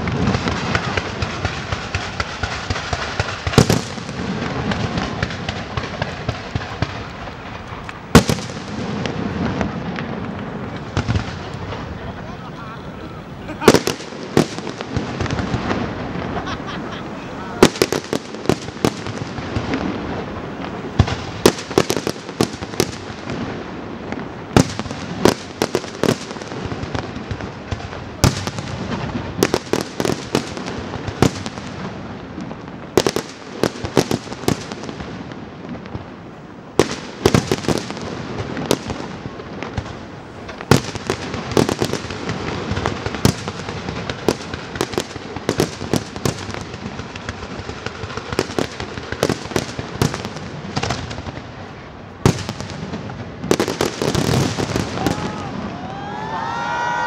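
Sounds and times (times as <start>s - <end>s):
fireworks crackling: 0.0s - 57.0s.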